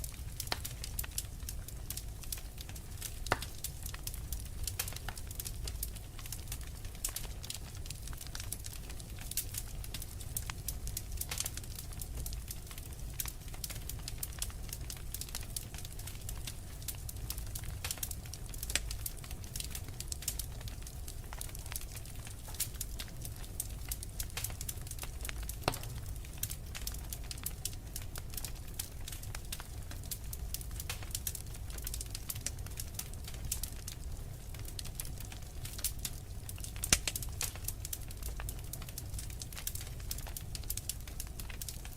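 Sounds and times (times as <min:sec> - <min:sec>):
low rumble of flames: 0:00.0 - 0:41.9
wood fire crackling: 0:00.0 - 0:41.9.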